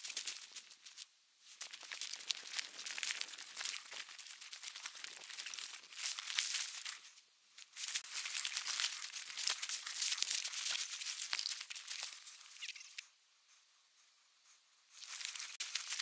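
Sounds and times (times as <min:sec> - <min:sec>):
rustling through dry brush: 0:00.0 - 0:13.0, 0:14.4 - 0:16.0.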